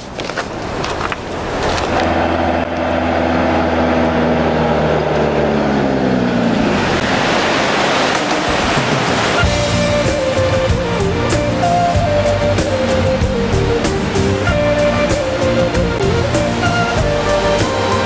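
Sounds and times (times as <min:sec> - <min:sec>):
minivan engine passing by: 0:00.0 - 0:18.0
tyre and road noise: 0:00.0 - 0:18.0.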